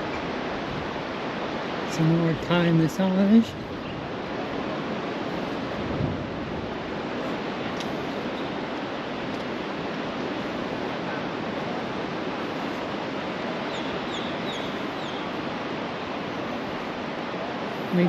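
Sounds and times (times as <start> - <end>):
surf washing onto sandy beach: 0.0 - 18.0.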